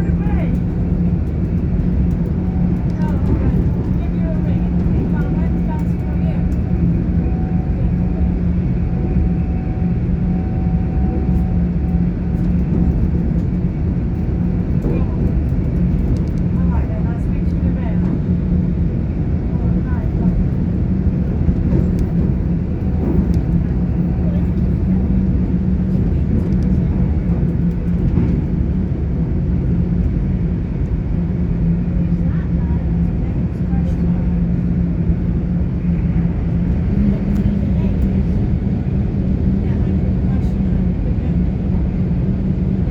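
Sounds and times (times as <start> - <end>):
constant low hum: 0.0 - 42.9
train interior rumble: 0.0 - 42.9.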